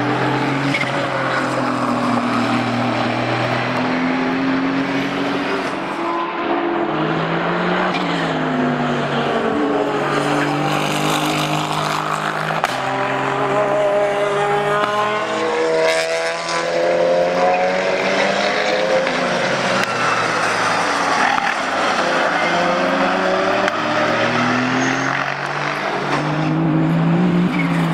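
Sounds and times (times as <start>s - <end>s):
race car engine at speed: 0.0s - 27.9s.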